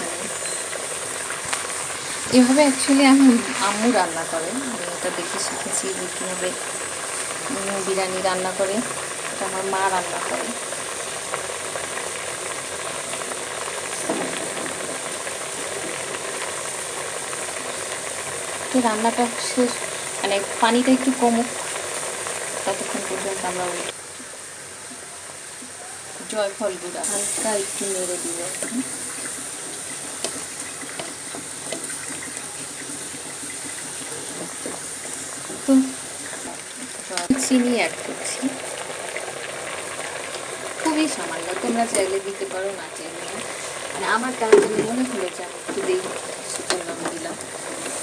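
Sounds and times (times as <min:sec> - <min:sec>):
curry sizzling and bubbling in pot: 0:00.0 - 0:48.0.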